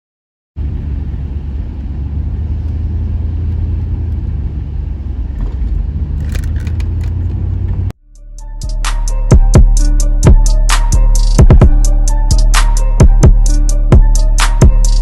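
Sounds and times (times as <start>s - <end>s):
vehicle engine rumbling: 0.6s - 15.0s.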